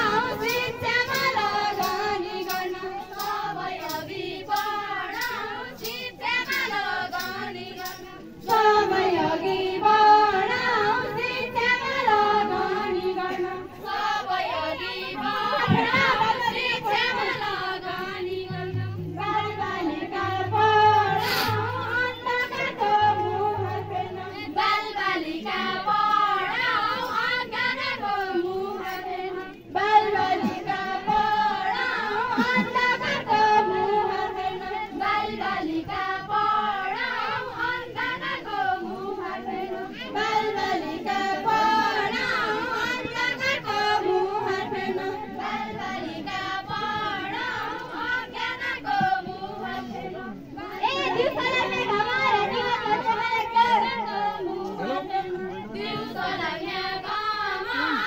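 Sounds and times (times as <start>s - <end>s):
women singing in unison: 0.0s - 58.0s.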